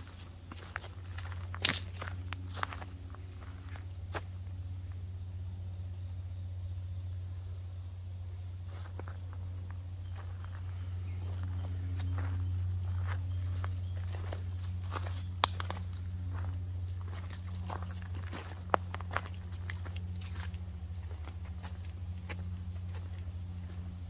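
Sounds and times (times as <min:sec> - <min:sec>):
footsteps on trail: 0:00.0 - 0:05.1, 0:08.7 - 0:24.0
insects trilling: 0:00.0 - 0:24.0
low hum: 0:00.0 - 0:24.0.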